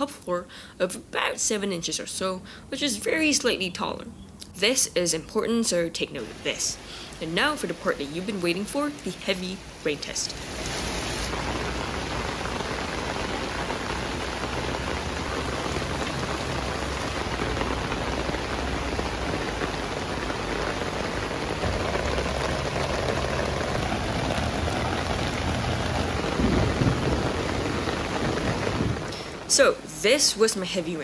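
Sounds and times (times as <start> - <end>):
heavy rain on tent and lawn: 6.0 - 31.0.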